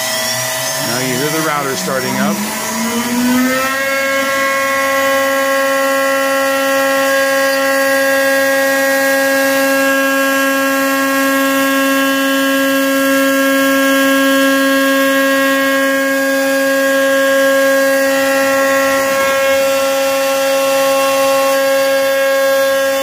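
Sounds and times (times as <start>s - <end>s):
router spindle high-pitched whine: 0.0s - 23.0s.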